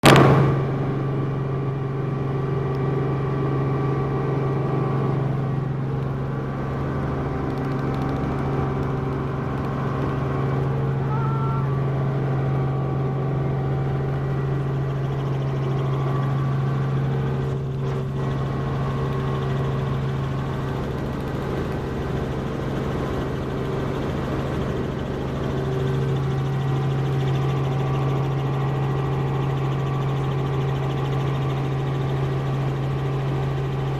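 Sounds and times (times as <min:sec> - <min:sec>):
helicopter engine and rotor: 0:00.0 - 0:33.9.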